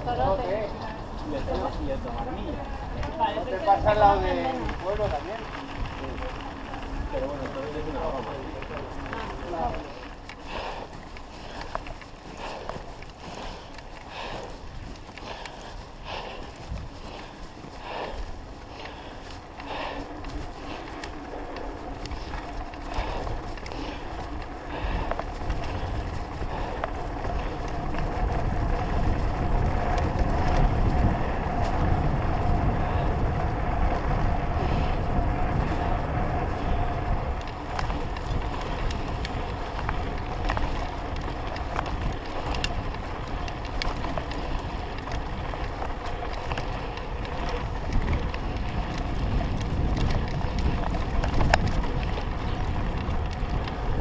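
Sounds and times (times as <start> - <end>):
bike rattling: 0.0 - 54.0
tyres rumbling over gravel: 0.0 - 54.0
wind buffeting microphone: 0.0 - 54.0.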